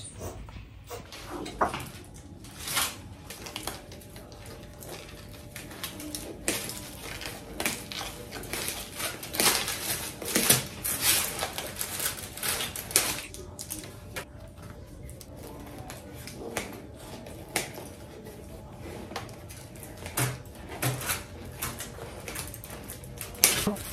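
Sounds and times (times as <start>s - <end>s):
scissors cutting bread crust: 1.8s - 23.9s.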